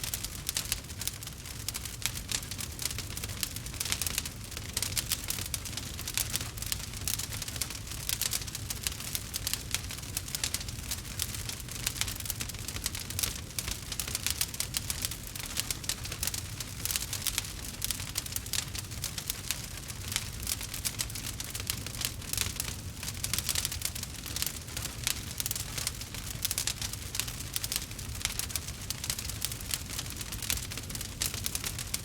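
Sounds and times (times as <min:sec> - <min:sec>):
campfire crackling: 0:00.0 - 0:32.0
low rumble of flame: 0:00.0 - 0:32.0.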